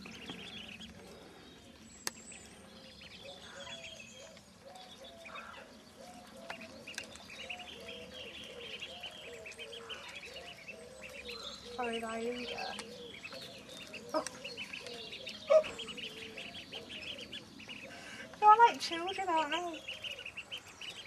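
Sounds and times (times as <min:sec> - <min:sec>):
ducklings peeping: 0:00.0 - 0:21.0
small birds chirping: 0:00.0 - 0:21.0.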